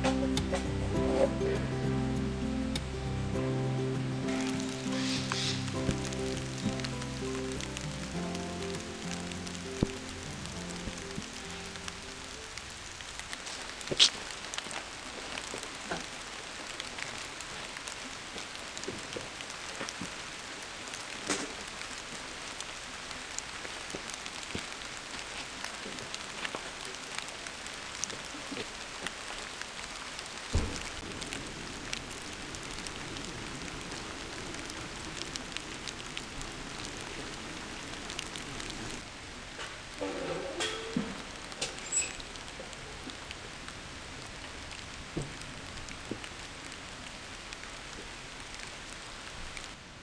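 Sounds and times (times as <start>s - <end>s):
steady rainfall: 0.0s - 50.0s.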